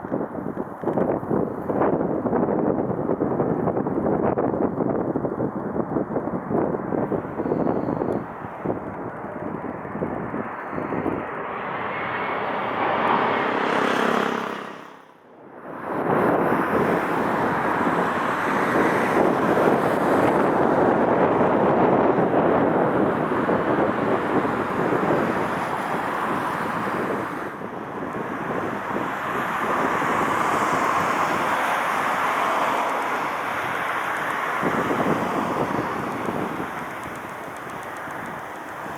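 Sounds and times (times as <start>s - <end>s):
jet engine noise: 0.0s - 38.9s
wind buffeting microphone: 0.0s - 38.9s.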